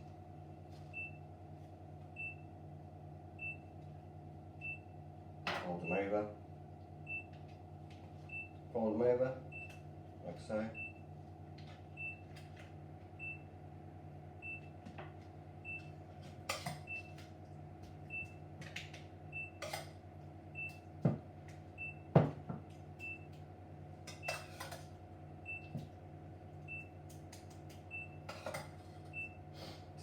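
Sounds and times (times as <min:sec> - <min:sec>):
appliance hum: 0:00.0 - 0:30.0.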